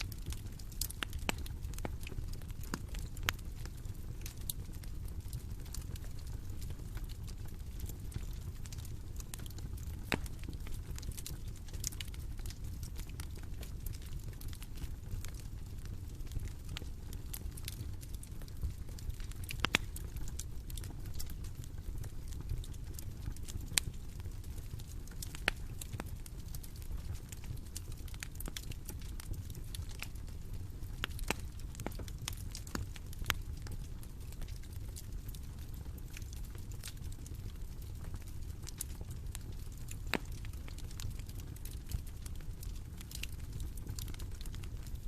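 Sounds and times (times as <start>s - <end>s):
bonfire crackling and popping: 0.0s - 45.0s
low rumble of flames: 0.0s - 45.0s.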